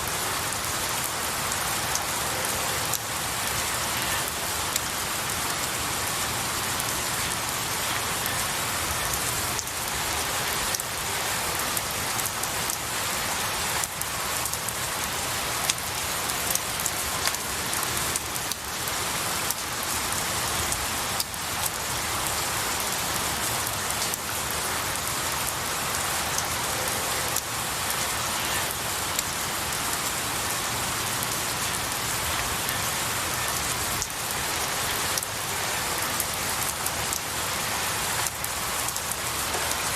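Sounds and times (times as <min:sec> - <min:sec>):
raindrops ticking: 0:00.0 - 0:26.6, 0:27.2 - 0:39.9
rain on pine branches: 0:00.0 - 0:39.9.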